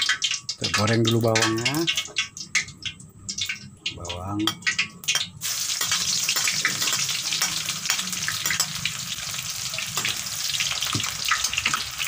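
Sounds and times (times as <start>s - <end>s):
shallots sizzling in hot oil: 0.0s - 2.7s, 3.4s - 12.0s.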